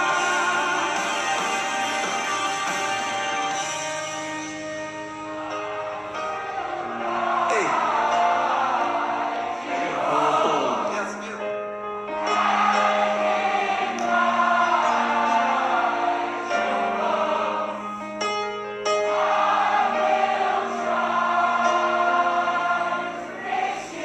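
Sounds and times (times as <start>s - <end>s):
choir singing slow song: 0.0s - 11.2s, 12.1s - 24.0s.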